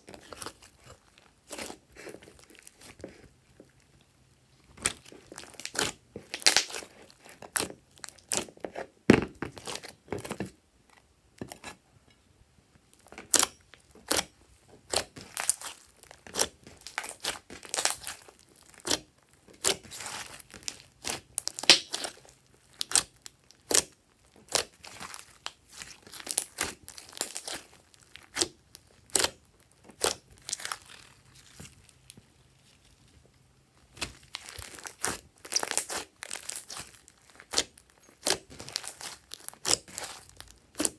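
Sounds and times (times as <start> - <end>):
slime squelching and crackling: 0.0 - 8.7, 12.9 - 40.9.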